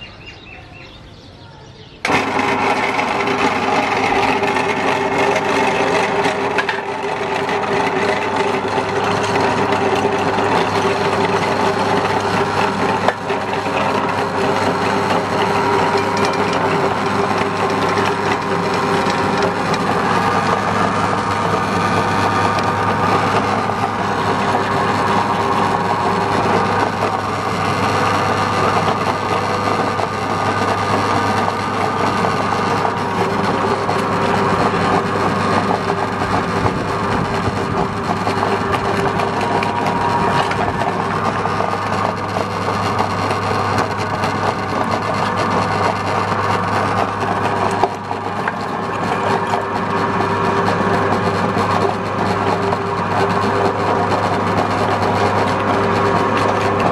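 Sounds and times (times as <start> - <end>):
meat grinder humming: 2.0 - 56.9.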